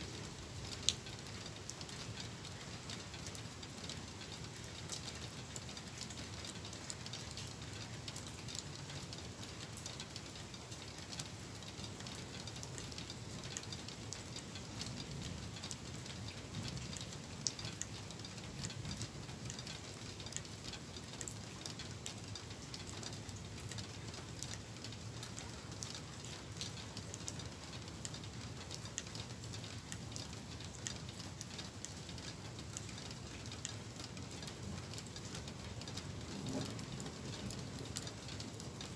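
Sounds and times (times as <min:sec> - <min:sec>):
light rain pattering: 0:00.0 - 0:38.9.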